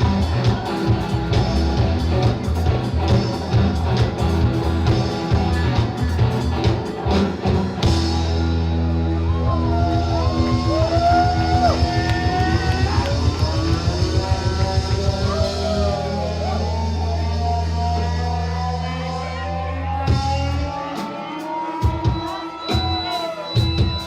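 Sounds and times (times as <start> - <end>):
bass and drums: 0.0 - 24.0
electric guitar with bent notes: 0.0 - 24.0
rock band playing loud music: 0.0 - 24.0.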